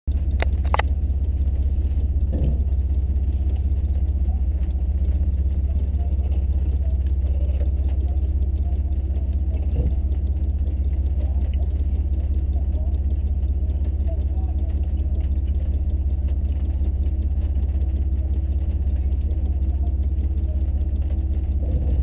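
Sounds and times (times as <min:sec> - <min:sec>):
car engine idling: 0:00.1 - 0:22.0.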